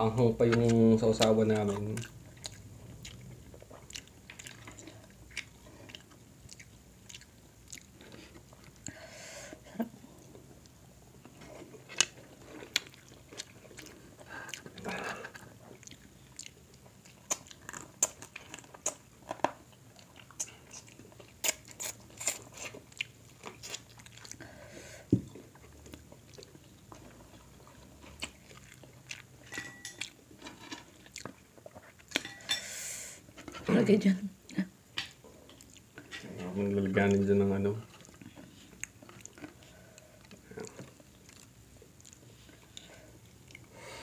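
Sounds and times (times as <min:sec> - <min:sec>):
people chewing and smacking: 0:00.4 - 0:32.4, 0:34.5 - 0:44.0.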